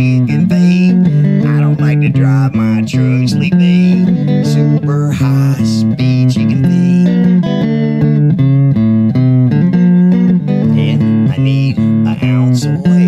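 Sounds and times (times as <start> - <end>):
bass line: 0.0 - 13.0
slow country guitar music: 0.0 - 13.0.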